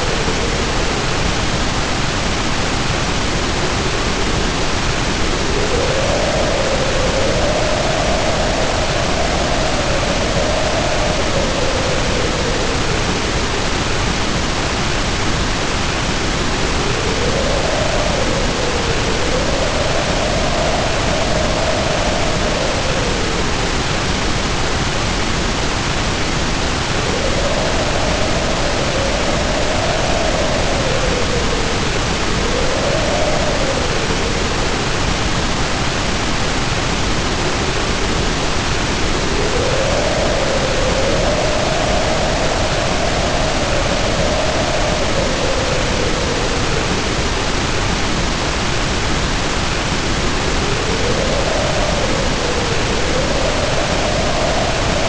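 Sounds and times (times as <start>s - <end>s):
heavy rain pouring: 0.0s - 55.0s
wind howling: 0.0s - 55.0s.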